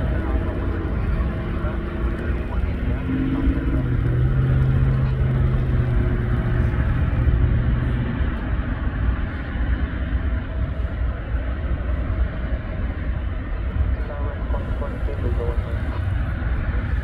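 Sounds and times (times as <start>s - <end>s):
jet engines rumbling: 0.0s - 17.0s
low hum: 0.0s - 17.0s.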